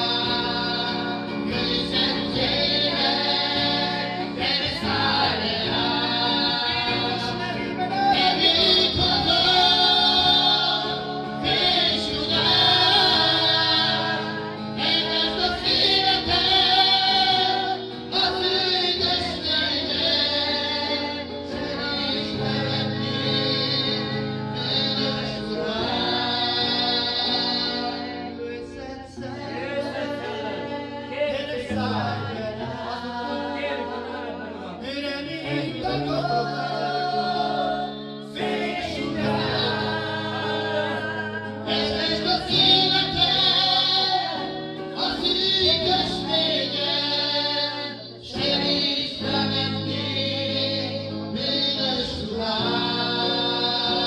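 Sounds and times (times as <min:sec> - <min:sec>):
congregation singing: 0:00.0 - 0:54.0
electric guitar: 0:00.0 - 0:54.0
man singing through microphone: 0:00.0 - 0:54.0.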